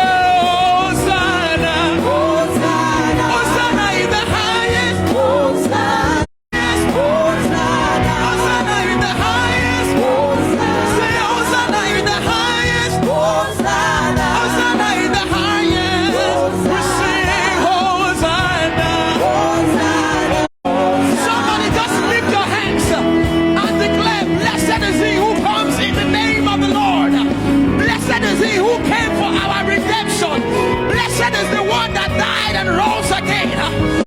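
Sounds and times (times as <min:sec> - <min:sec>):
band accompaniment: 0:00.0 - 0:34.0
choir singing gospel song: 0:00.0 - 0:34.0.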